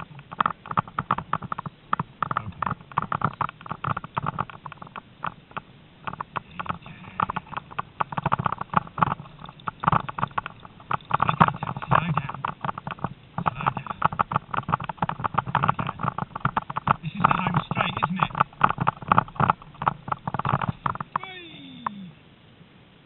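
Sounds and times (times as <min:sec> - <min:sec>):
rig rattling over rough grass: 0:00.0 - 0:22.0.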